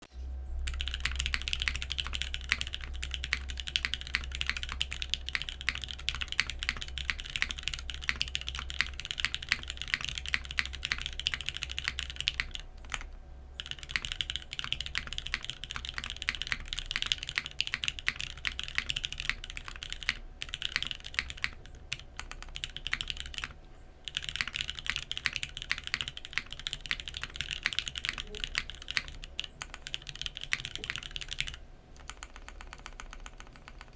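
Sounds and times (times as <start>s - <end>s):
fast typing on mechanical keyboard: 0.6s - 33.9s.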